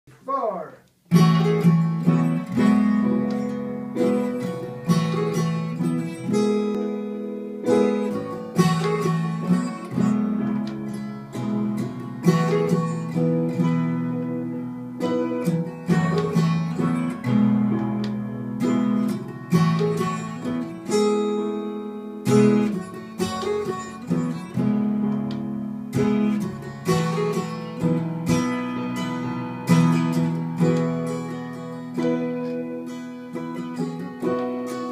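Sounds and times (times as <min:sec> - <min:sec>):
acoustic guitar strumming chords: 0:00.1 - 0:34.9.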